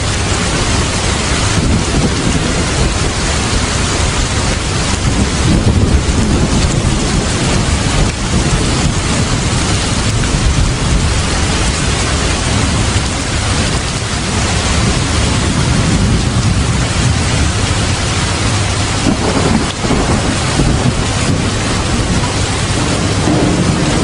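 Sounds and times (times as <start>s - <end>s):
heavy rain falling: 0.0s - 24.0s
thunder rumbling: 0.0s - 24.0s.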